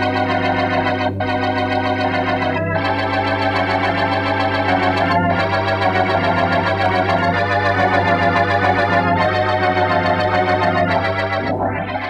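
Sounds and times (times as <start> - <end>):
low organ bass note: 0.0 - 12.0
organ chords with tremolo: 0.0 - 12.0.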